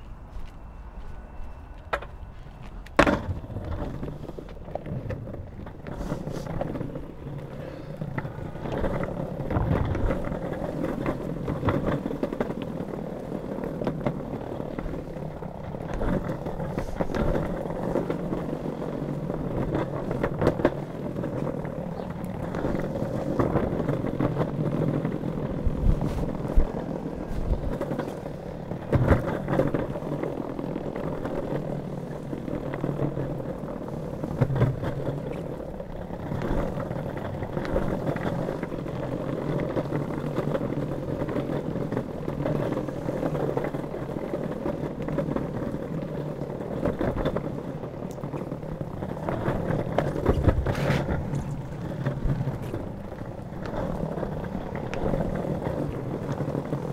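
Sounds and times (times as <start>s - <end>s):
skateboard wheels rolling on bricks: 0.0s - 56.9s.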